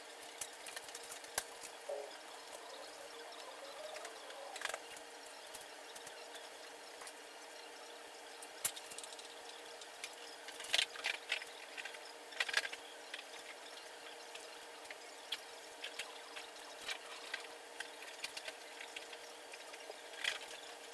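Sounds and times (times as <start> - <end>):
faint hum: 0.0 - 20.9.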